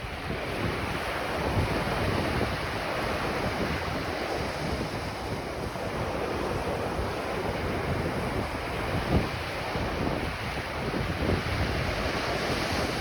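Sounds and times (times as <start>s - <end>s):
ocean surf washing on beach: 0.0s - 13.0s
wind buffeting microphone: 0.0s - 13.0s.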